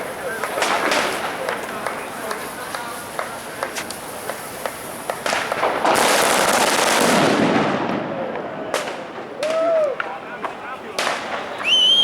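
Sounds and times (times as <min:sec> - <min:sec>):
dense firecracker crackle: 0:00.0 - 0:12.0
firecracker bangs: 0:00.0 - 0:12.0.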